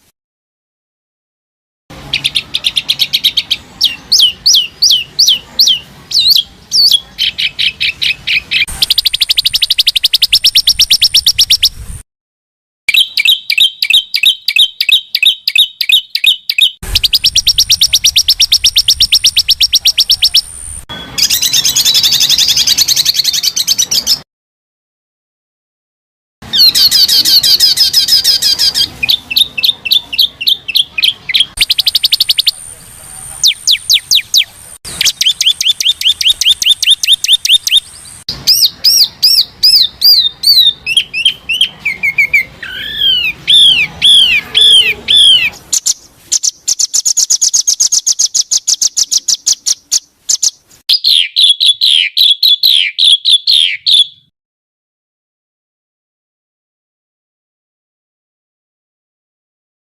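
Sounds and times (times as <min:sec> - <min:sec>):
songbird trills and chirps: 0:02.2 - 0:11.8, 0:12.9 - 0:24.2, 0:26.6 - 0:54.3.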